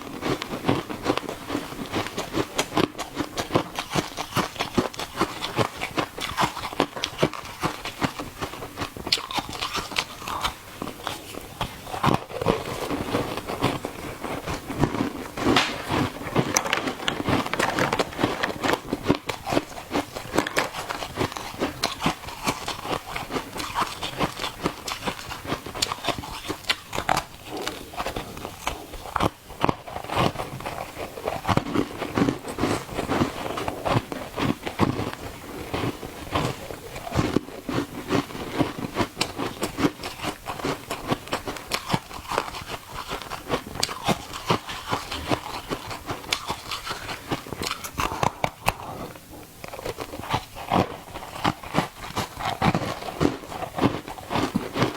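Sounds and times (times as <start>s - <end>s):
ice crunching being chewed: 0.0s - 54.9s.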